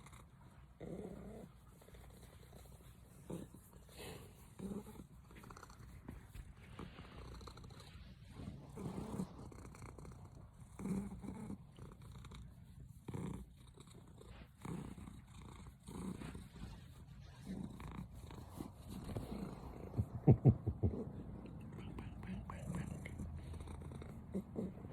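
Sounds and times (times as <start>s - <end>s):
cat purring: 0.0s - 24.9s.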